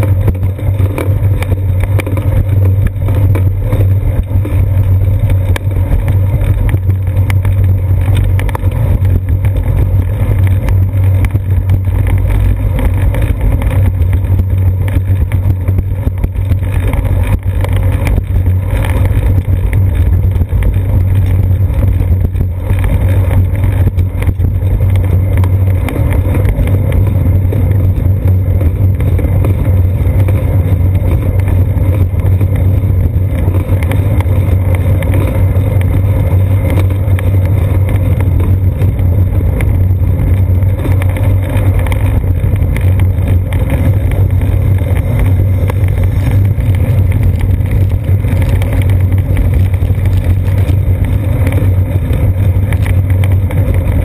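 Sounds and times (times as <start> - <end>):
wind and bicycle ride vibration: 0.0 - 54.0.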